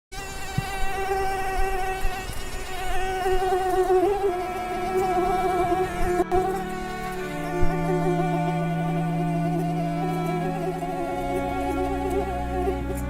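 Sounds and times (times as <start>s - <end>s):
insect buzzing: 0.1s - 13.0s.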